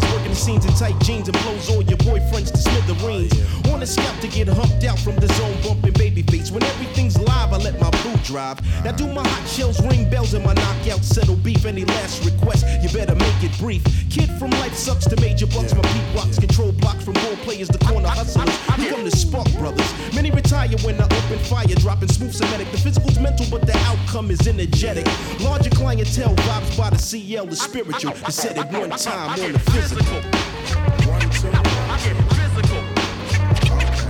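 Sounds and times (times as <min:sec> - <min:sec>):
rapping over a beat: 0:00.0 - 0:34.0.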